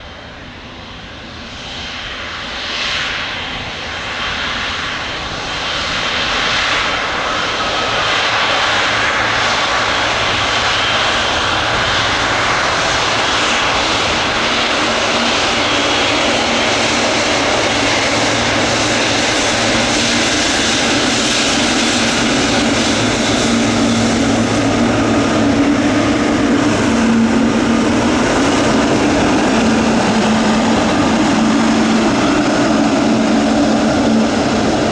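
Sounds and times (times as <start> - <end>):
jet airliner engines: 0.0 - 34.9.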